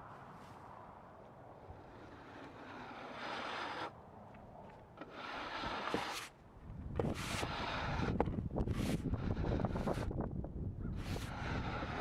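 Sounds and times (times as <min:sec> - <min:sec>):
scraping across wooden log: 0:01.7 - 0:10.3, 0:11.0 - 0:12.0.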